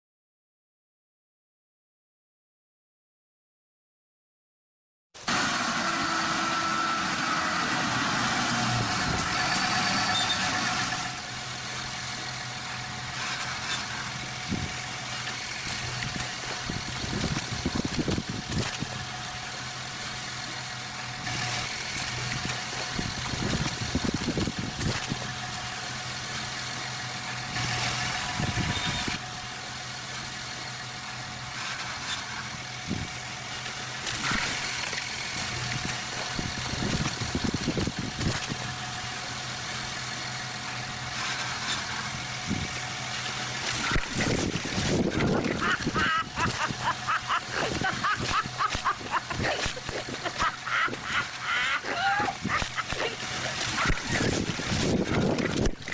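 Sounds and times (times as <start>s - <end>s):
motor engine running: 5.2s - 55.9s.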